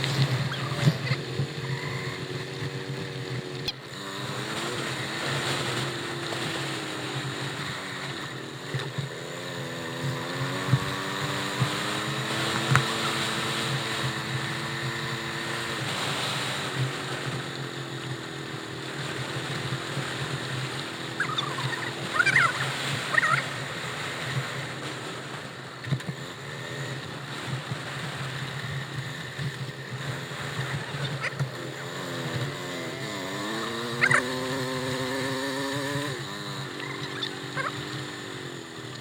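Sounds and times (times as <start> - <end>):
motor engine running: 0.0 - 39.0.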